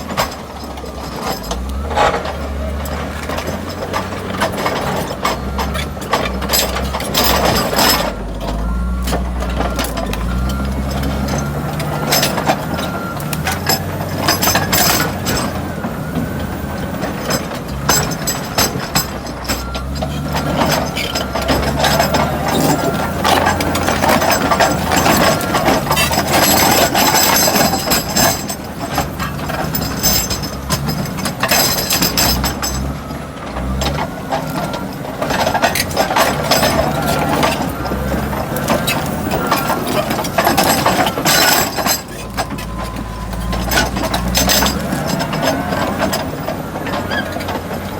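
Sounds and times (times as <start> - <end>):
bulldozer diesel engine: 0.0 - 47.9
rock and soil scraping: 0.0 - 47.9
steel tracks clanking: 0.0 - 47.9.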